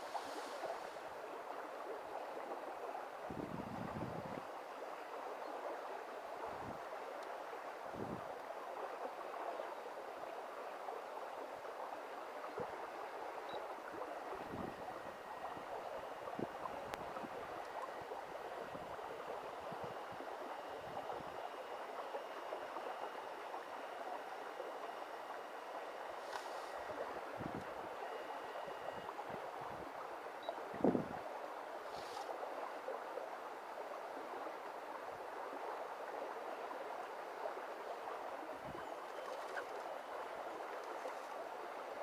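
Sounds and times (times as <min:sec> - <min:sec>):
rushing water noise: 0:00.0 - 0:42.0
thin whine of small electric motors: 0:00.0 - 0:42.0.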